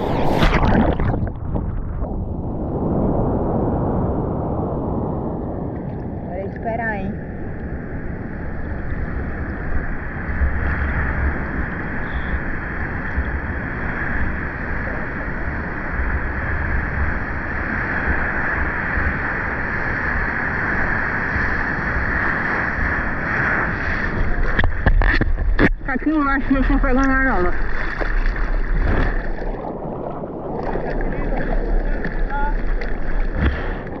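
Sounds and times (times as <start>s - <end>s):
sea water and surf rushing: 0.0s - 34.0s
wave breaking: 0.0s - 34.0s
wind buffeting microphone: 0.0s - 34.0s.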